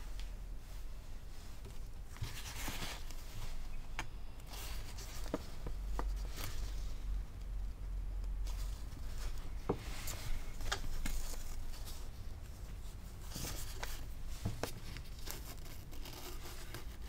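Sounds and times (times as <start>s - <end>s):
paper rustling: 1.6s - 7.1s, 8.4s - 17.0s.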